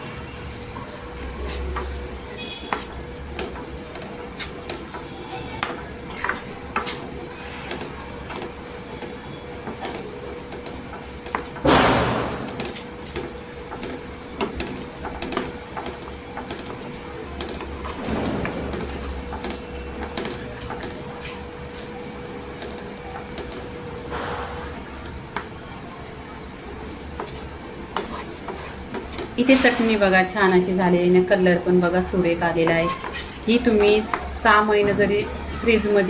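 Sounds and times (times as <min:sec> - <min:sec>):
swish of stirring: 0:00.0 - 0:30.8, 0:32.4 - 0:34.4.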